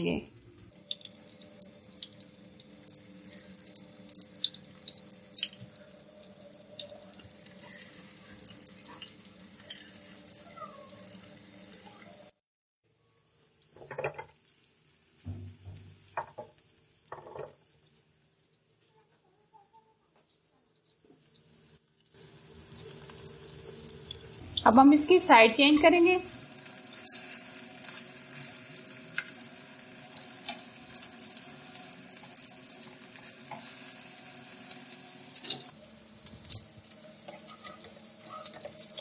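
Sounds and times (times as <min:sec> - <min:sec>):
meat sizzling in hot oil: 0:00.0 - 0:12.4, 0:13.0 - 0:19.2, 0:20.3 - 0:39.0.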